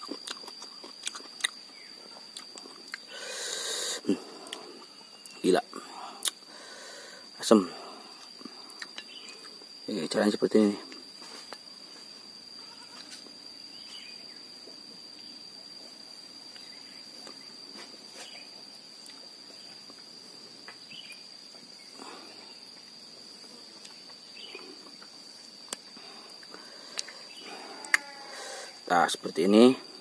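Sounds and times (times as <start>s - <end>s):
cricket trilling: 0.0s - 30.0s.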